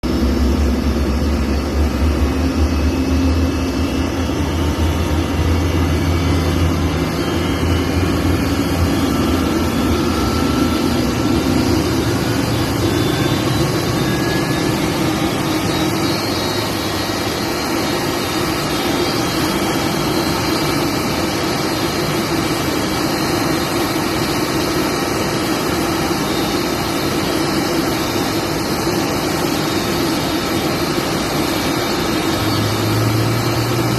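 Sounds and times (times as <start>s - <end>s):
engine drone: 0.0s - 33.9s.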